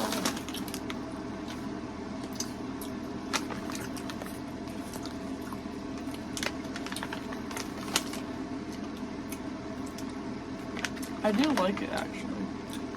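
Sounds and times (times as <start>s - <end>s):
person chewing sticky candy: 0.0s - 11.2s, 12.6s - 12.9s
room hum: 0.0s - 12.9s.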